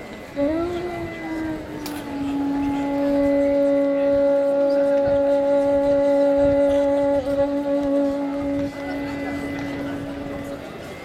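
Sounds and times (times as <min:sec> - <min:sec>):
low held musical note: 0:00.3 - 0:11.0
higher held note: 0:00.4 - 0:11.0.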